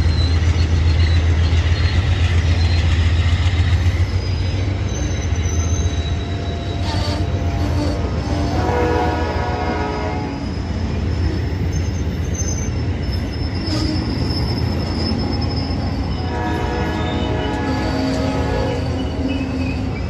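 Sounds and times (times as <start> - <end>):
high-pitched wheel squeal: 0.0 - 20.0
train wheels rumbling on rails: 0.0 - 20.0.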